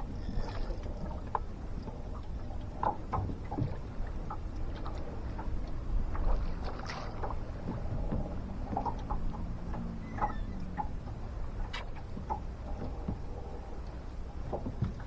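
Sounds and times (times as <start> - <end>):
water lapping and sloshing: 0.0 - 15.0
small knocks and splashes: 0.4 - 13.4, 14.4 - 15.0.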